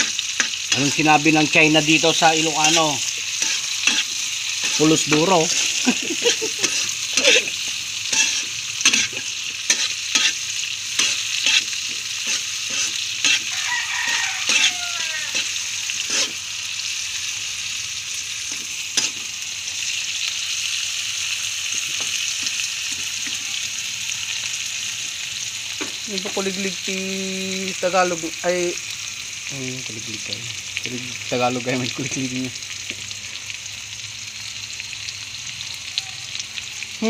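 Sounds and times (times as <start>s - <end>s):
sizzling in hot oil: 0.0s - 37.0s.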